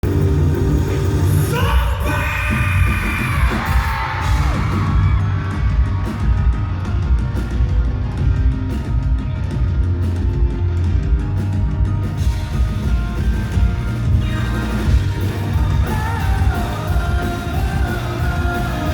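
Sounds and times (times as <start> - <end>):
audience screaming and cheering: 0.0 - 18.9
live rock band playing: 0.0 - 18.9.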